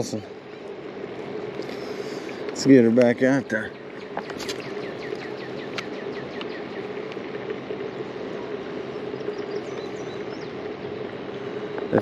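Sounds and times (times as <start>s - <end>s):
bird chirping: 1.6s - 11.8s.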